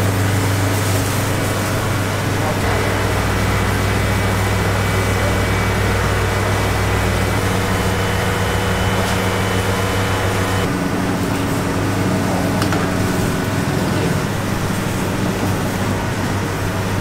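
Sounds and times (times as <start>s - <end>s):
low mechanical hum: 0.0s - 17.0s
noisy background: 0.0s - 17.0s.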